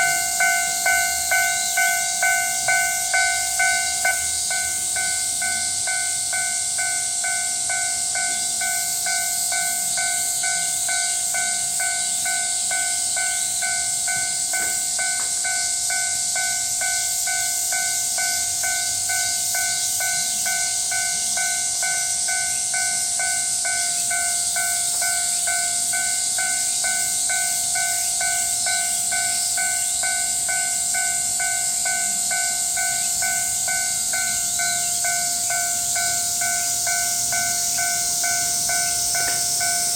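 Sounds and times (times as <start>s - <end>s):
level-crossing warning bell: 0.0s - 39.9s
steady high hiss: 0.0s - 39.9s.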